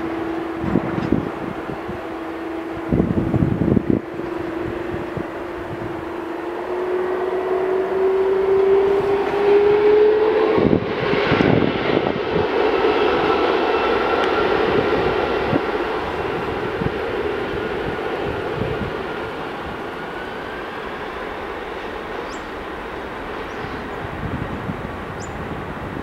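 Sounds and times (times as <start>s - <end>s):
jet engines roaring and whining: 0.0s - 26.0s.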